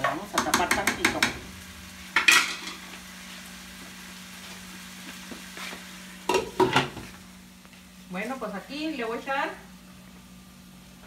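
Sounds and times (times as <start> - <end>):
potatoes frying in oil: 0.0 - 11.0
steady low hum: 0.0 - 11.0.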